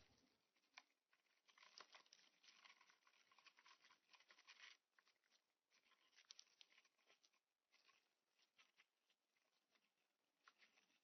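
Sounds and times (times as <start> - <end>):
insect ticking and scratching: 0.0 - 11.0.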